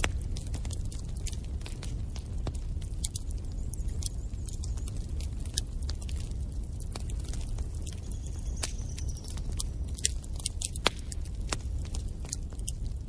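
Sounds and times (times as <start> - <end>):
fire popping: 0.0 - 13.0
low rumble of flames: 0.0 - 13.0
wood fire crackling: 0.0 - 13.0.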